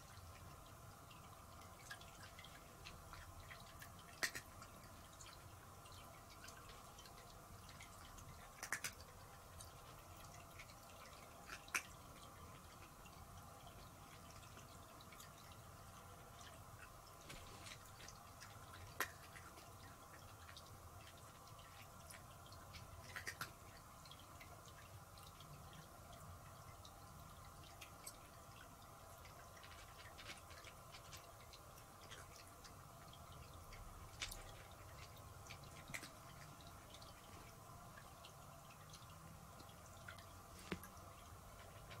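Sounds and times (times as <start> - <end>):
faint small ticks: 0.0 - 42.0.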